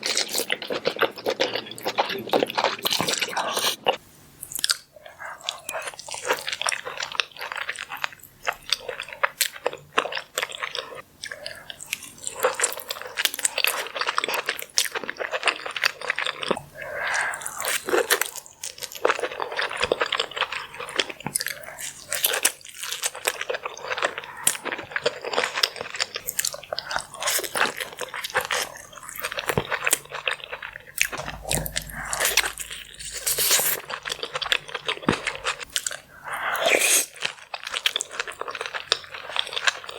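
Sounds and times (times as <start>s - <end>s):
person chewing with crunching: 0.0s - 39.9s.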